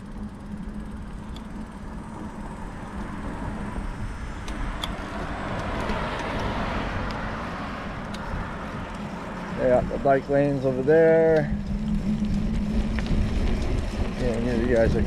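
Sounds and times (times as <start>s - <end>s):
car passing: 0.0s - 15.0s
low traffic rumble: 0.0s - 15.0s.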